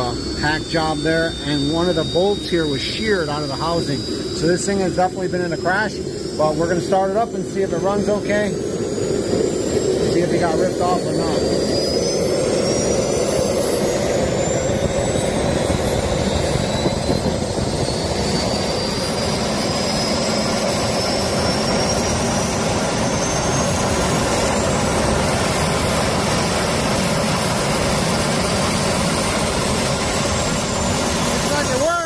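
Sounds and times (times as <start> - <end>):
jet turbine engine roaring and whining: 0.0 - 32.0.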